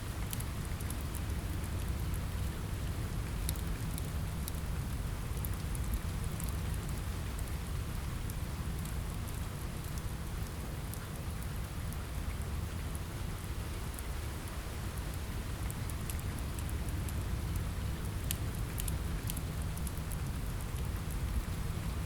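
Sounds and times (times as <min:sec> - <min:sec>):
rain on a window: 0:00.0 - 0:22.0.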